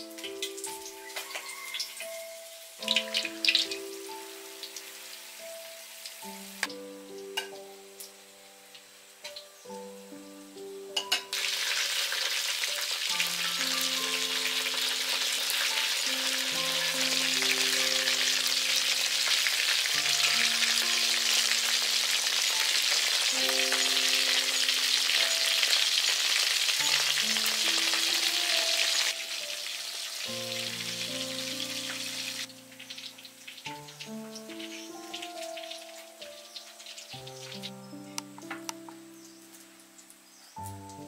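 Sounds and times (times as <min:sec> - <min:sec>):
food deep-frying in hot oil: 0:00.0 - 0:41.0.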